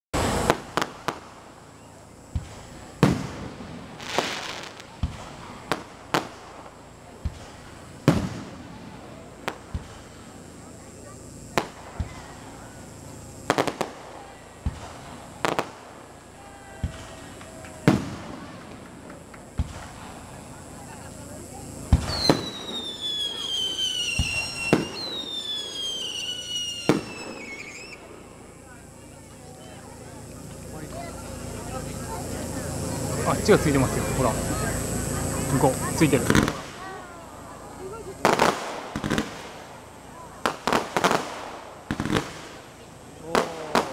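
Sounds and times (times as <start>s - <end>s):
fireworks booming and cracking: 0.1s - 43.9s
hissing crackle: 0.2s - 43.9s.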